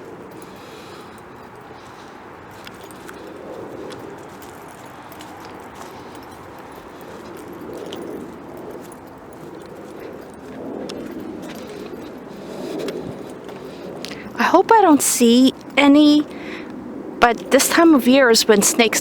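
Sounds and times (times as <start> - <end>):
crackles underfoot: 0.0 - 19.0
footsteps on woodland trail: 0.0 - 19.0.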